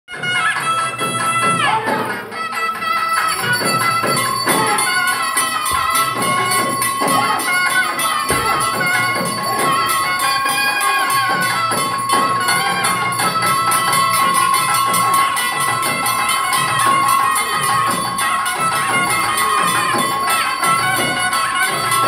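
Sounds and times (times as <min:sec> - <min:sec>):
jingling percussion: 0:00.1 - 0:22.0
traditional dance music: 0:00.1 - 0:22.0.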